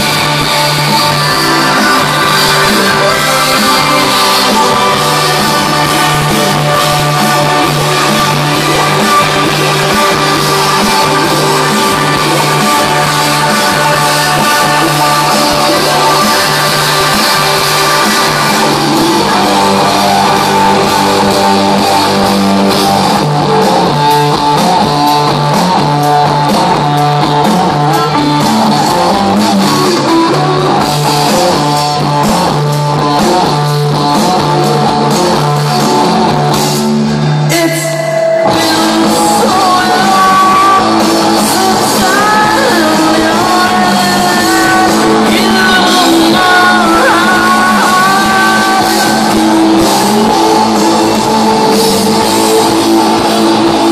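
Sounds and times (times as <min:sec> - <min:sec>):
bass guitar: 0:00.0 - 0:53.9
drums: 0:00.0 - 0:53.9
electric guitars: 0:00.0 - 0:53.9
person singing: 0:00.0 - 0:53.9.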